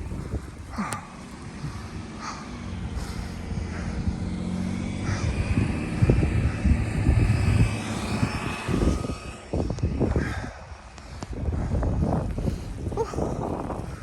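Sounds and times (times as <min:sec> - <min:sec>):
distant engine drone: 0:00.0 - 0:14.0
low rumbles and thumps: 0:00.0 - 0:14.0.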